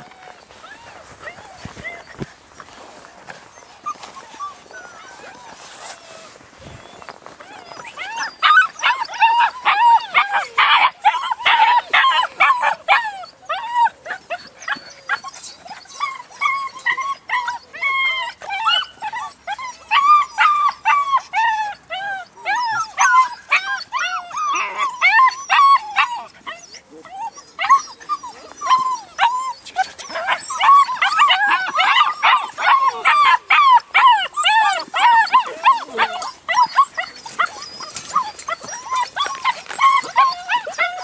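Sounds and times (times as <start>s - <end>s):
puppies yapping and whining: 0.0s - 41.0s.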